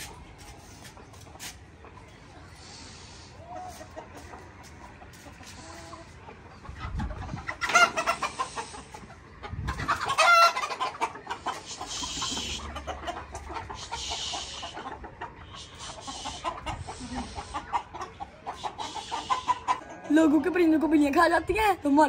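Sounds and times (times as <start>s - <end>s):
chickens squawking and clucking: 0.0s - 22.0s.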